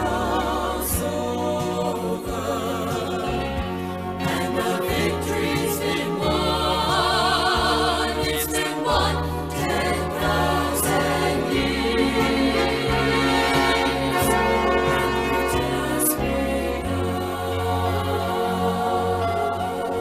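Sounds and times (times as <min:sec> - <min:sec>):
gospel choir singing: 0:00.0 - 0:20.0
sustained bass notes: 0:00.0 - 0:20.0.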